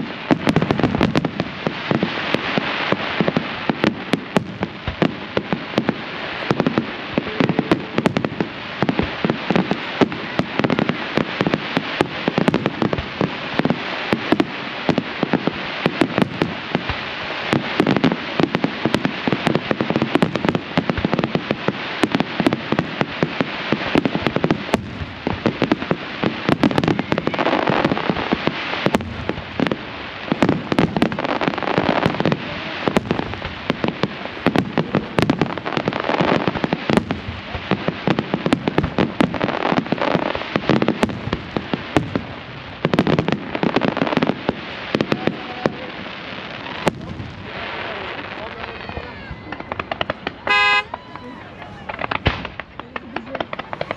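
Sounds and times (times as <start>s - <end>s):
fireworks bangs: 0.0s - 53.9s
fireworks crackling: 0.0s - 53.9s.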